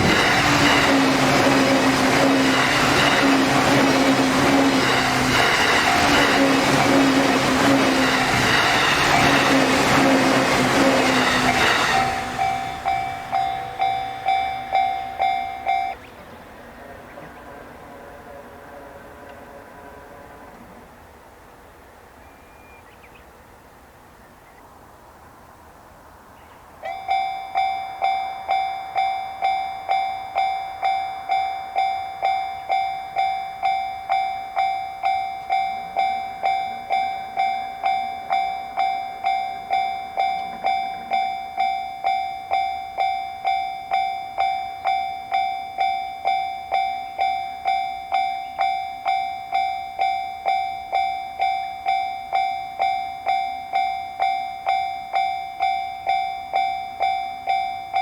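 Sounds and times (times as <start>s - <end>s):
railroad crossing warning bell: 0.0s - 21.2s, 26.8s - 58.0s.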